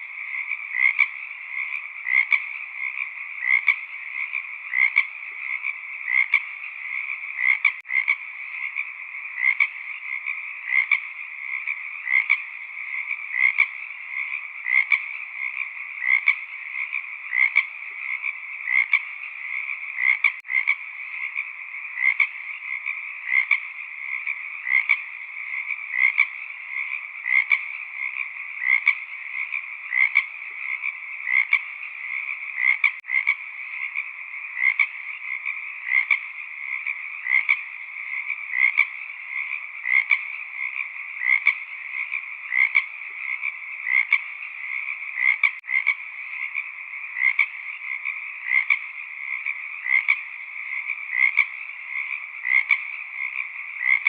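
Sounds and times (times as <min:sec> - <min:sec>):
chorus of frogs croaking: 0:00.0 - 0:54.0
loud frog call: 0:00.0 - 0:54.0.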